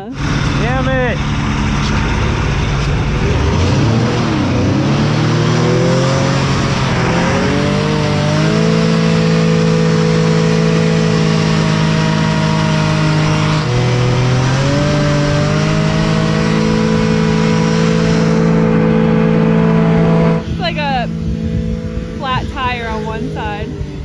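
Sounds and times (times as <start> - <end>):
hovercraft engine and fan running: 0.0 - 24.0.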